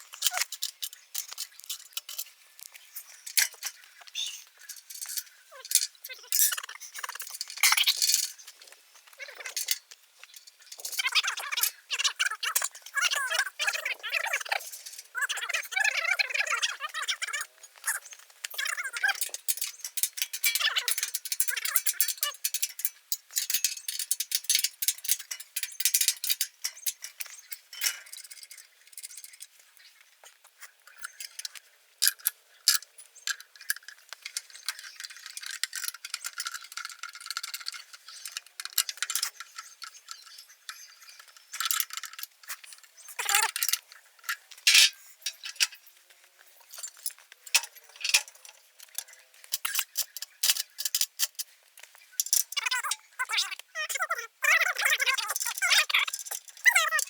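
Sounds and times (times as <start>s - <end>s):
metal parts clinking and rattling: 0.0s - 29.6s, 30.9s - 45.9s, 46.6s - 57.0s.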